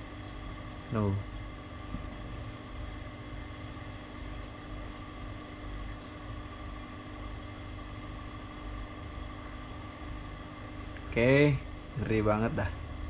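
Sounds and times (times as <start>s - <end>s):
machine hum with low rumble: 0.0s - 13.0s.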